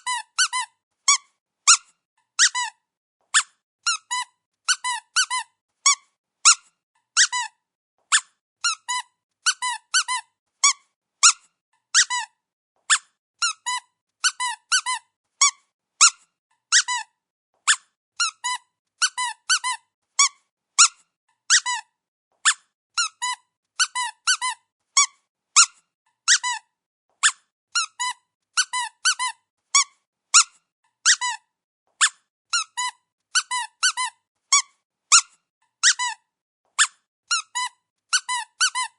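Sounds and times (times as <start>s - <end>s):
squeaky dog toy squeaking: 0.0s - 38.9s.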